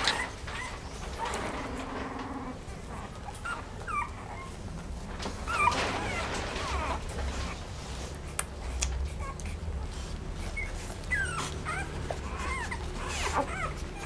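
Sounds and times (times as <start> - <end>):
dog whining: 0.0 - 7.8, 8.8 - 14.0.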